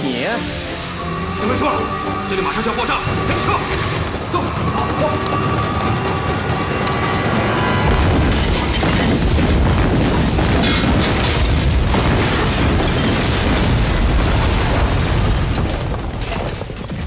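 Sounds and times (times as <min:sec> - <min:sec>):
explosion with low rumble: 0:03.1 - 0:17.0.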